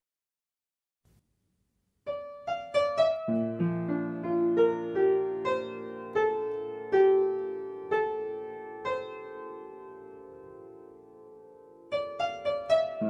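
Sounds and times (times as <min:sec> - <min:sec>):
slow piano melody: 0:02.0 - 0:13.0
low held piano notes: 0:02.1 - 0:13.0.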